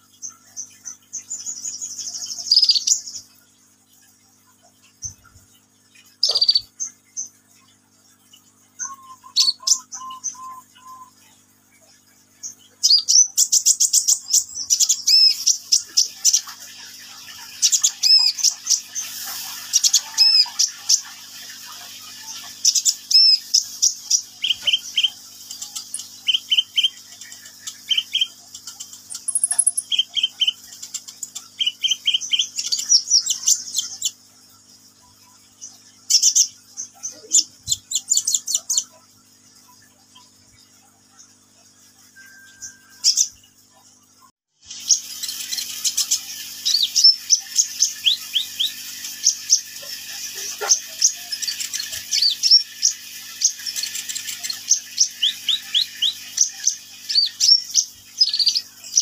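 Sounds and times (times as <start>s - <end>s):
bird singing high chirps and trills: 0.0s - 59.0s.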